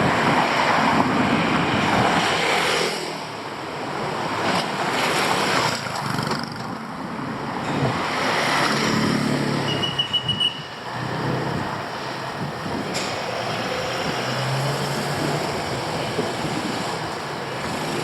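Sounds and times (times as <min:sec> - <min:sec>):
traffic passing: 0:00.0 - 0:18.0.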